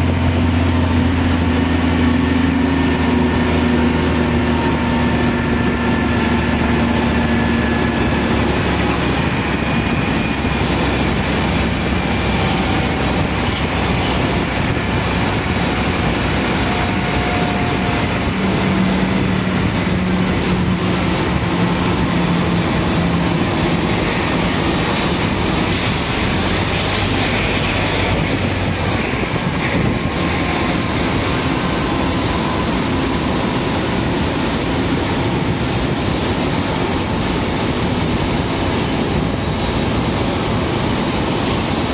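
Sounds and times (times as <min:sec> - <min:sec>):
engine hums: 0:00.0 - 0:41.9
loud machinery noise: 0:00.0 - 0:41.9.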